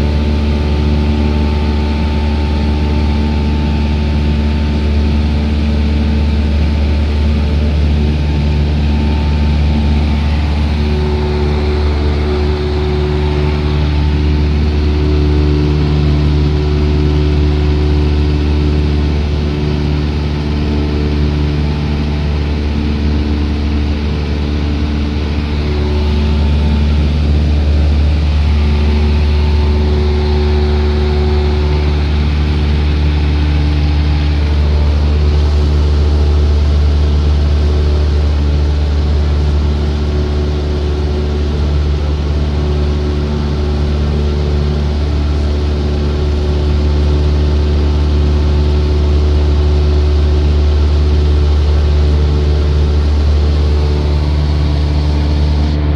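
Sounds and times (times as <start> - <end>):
light aircraft engine drone: 0.0 - 55.9.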